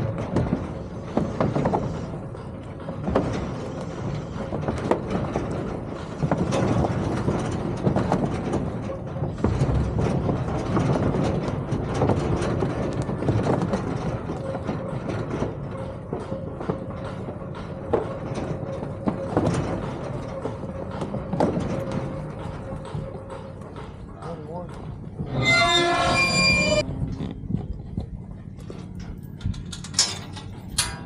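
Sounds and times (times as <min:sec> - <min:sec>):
vehicle engine rumbling: 0:00.0 - 0:31.0
vehicle rattles and clanks: 0:00.0 - 0:31.0.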